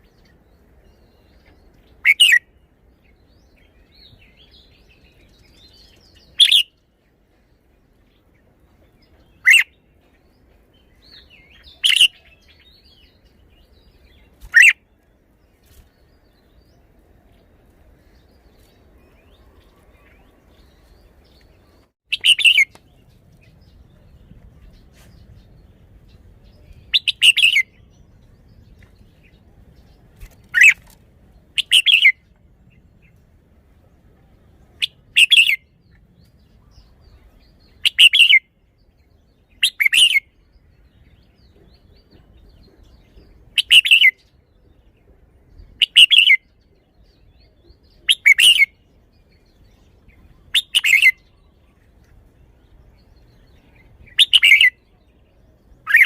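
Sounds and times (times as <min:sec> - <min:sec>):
bird singing song phrases: 0:00.0 - 0:56.0.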